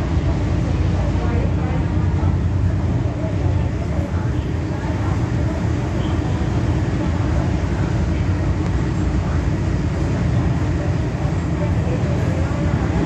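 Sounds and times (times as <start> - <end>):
train rumbling from inside: 0.0 - 13.0.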